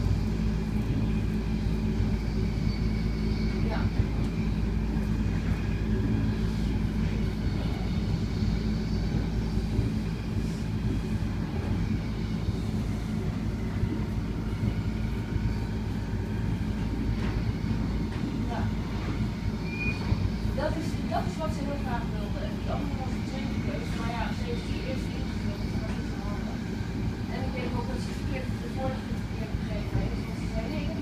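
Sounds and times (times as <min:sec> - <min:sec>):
steady hum: 0:00.0 - 0:31.0
train low rumble: 0:00.0 - 0:31.0.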